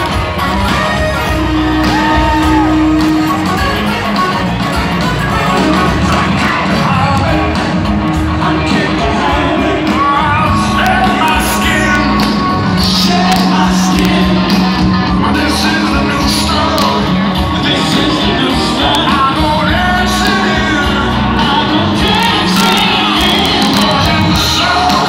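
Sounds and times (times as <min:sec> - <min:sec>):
live rock band playing: 0:00.0 - 0:25.0
singing and shouted vocals: 0:00.0 - 0:25.0.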